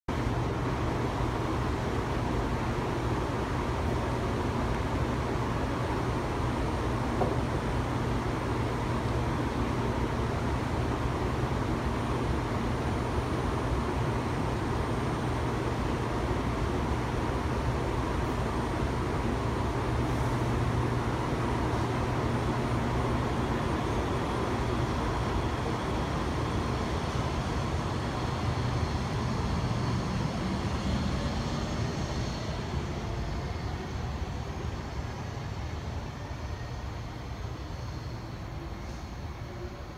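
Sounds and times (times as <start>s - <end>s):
train rushing and rumbling: 0.1s - 39.9s.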